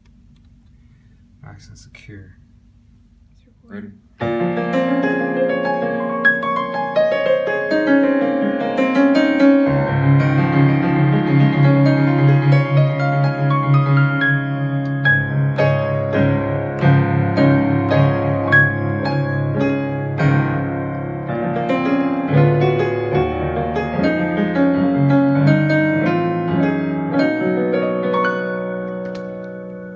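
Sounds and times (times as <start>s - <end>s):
keyboard playing piano chords: 4.2s - 29.9s.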